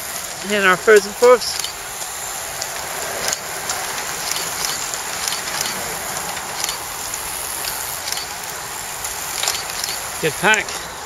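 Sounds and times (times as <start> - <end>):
bicycles whirring past: 0.0 - 11.0.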